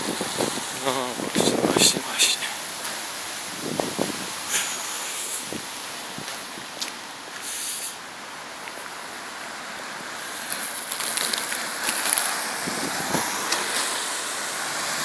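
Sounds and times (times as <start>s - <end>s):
car tyres hissing on wet asphalt: 0.0s - 15.0s.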